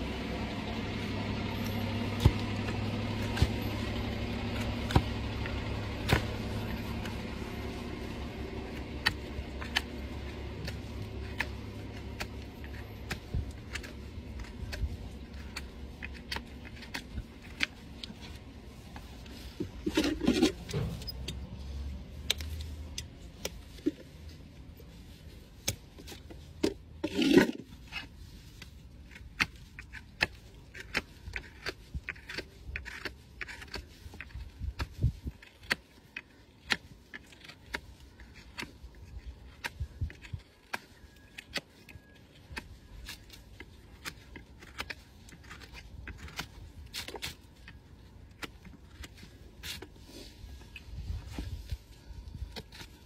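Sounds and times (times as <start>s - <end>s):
hand tools scraping hoof: 0.3s - 53.0s.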